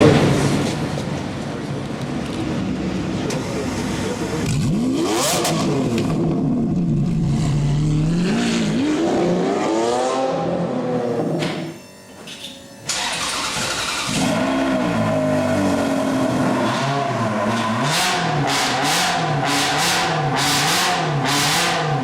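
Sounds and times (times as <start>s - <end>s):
car engine revving: 2.8s - 11.4s, 13.0s - 22.0s.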